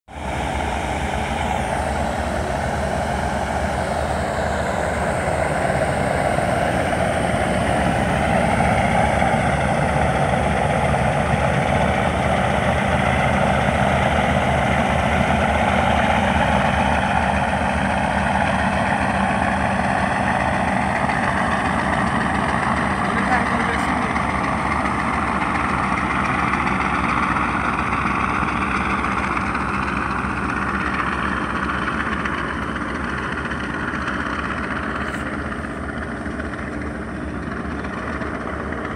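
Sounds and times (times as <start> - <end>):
ship engine low drone: 0.0 - 38.9.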